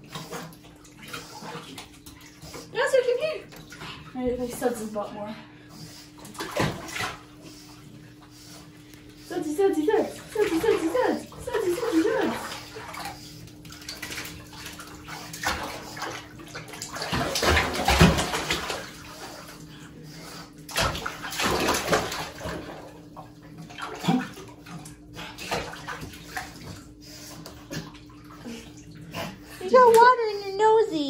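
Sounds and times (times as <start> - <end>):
bathtub water splashing: 0.0 - 31.0.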